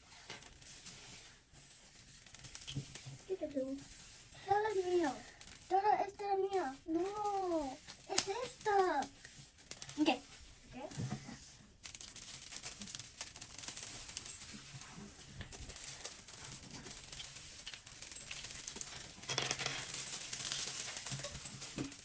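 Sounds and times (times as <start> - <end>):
small plastic pieces rattling: 0.1 - 22.0.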